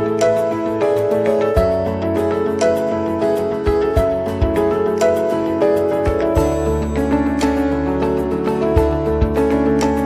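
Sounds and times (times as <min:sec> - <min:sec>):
soft sustained background music: 0:00.0 - 0:10.0.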